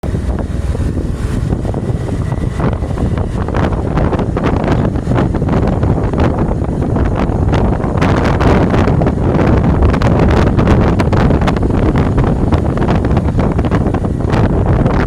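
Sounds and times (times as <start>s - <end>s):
motorcycle engine and road noise: 0.0s - 15.0s
wind buffeting microphone: 0.0s - 15.0s.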